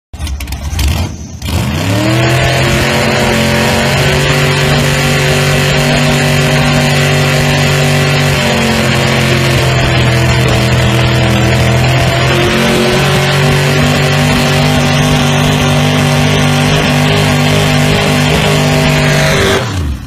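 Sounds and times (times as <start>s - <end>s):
engine revving: 0.3s - 20.0s.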